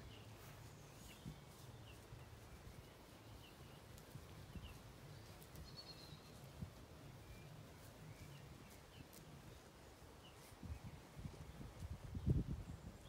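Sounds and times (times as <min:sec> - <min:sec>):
distant bird chirps: 0:00.0 - 0:10.9.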